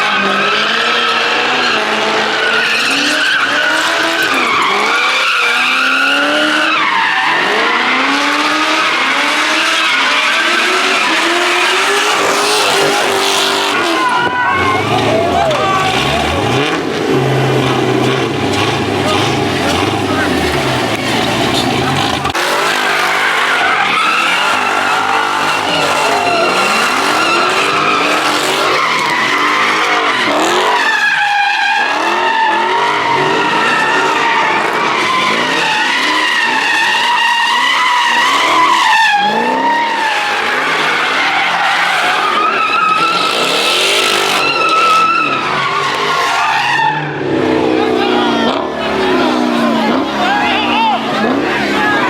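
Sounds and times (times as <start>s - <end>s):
car engine revving: 0.0s - 52.0s
car tyres squealing: 0.0s - 52.0s.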